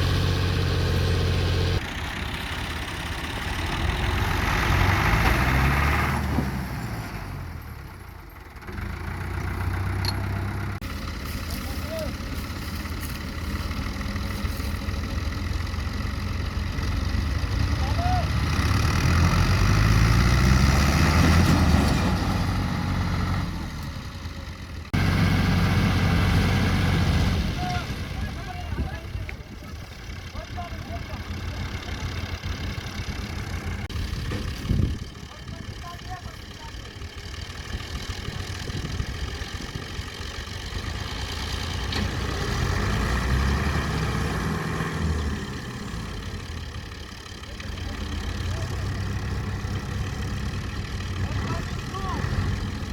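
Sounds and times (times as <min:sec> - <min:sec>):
tractor engine rumbling: 0:00.0 - 0:52.9.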